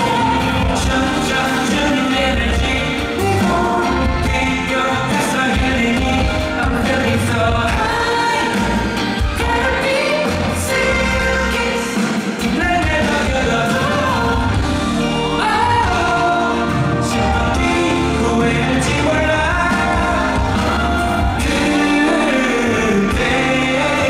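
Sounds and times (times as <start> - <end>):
live band playing: 0.0 - 24.0
man singing live: 0.0 - 24.0.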